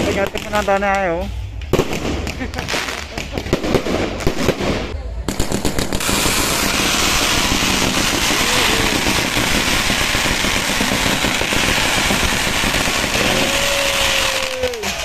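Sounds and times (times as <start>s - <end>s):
firework hissing and crackling: 0.0s - 15.0s.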